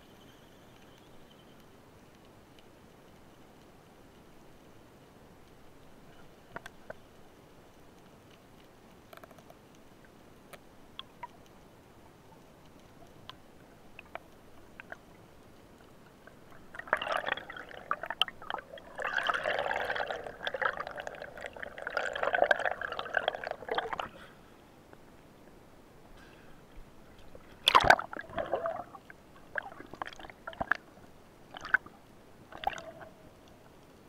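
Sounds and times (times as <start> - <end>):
faint underwater clicks: 0.1 - 34.0
underwater bubbling and gurgling: 2.1 - 25.5, 26.4 - 34.0.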